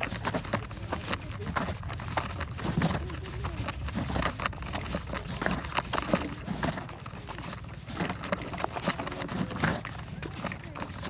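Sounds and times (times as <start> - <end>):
bicycle rattling and knocking: 0.0 - 11.0.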